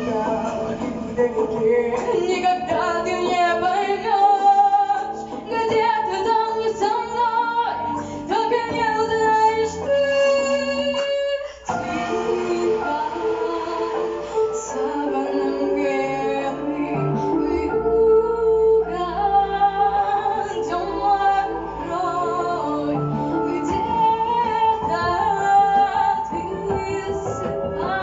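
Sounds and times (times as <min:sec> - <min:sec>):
sustained backing accompaniment: 0:00.0 - 0:28.0
woman singing: 0:00.0 - 0:28.0.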